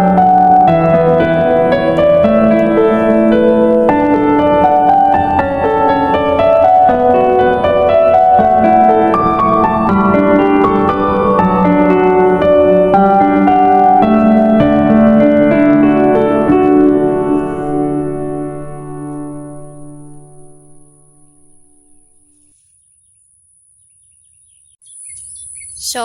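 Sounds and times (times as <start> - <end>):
calm piano music: 0.0 - 22.6.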